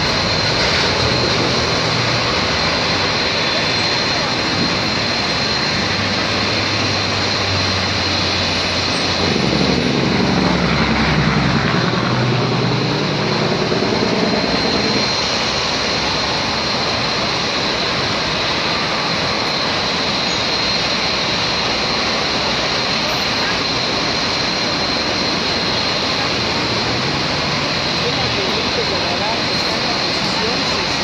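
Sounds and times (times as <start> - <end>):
jet engines running: 0.0 - 31.0
road traffic passing: 0.0 - 31.0
vehicle engine: 0.0 - 31.0.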